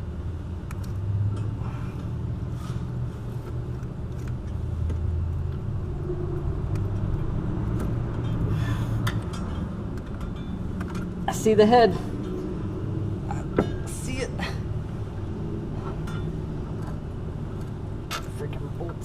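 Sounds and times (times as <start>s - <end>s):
mechanical rumble: 0.0s - 19.0s.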